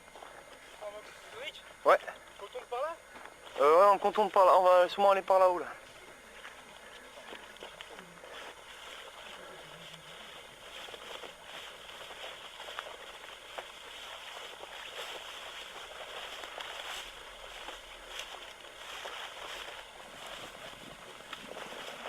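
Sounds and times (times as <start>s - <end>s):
footsteps in brush: 0.0s - 22.0s
steady hiss: 0.0s - 22.0s.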